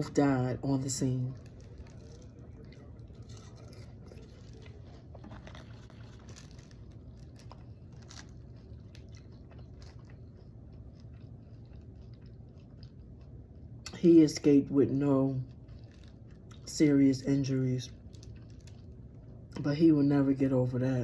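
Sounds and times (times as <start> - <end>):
low steady hum: 0.0 - 21.0
person chewing salad: 0.1 - 14.0, 15.0 - 16.7, 17.9 - 19.6.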